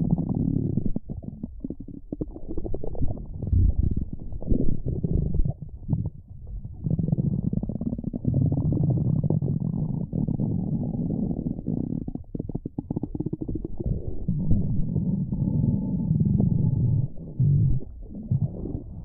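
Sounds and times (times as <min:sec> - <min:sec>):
stomach rumbling: 0:00.0 - 0:19.0.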